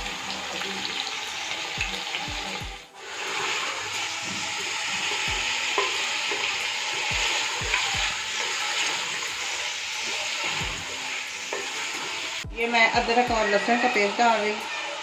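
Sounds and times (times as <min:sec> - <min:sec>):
meat sizzling in fat: 0:00.0 - 0:15.0.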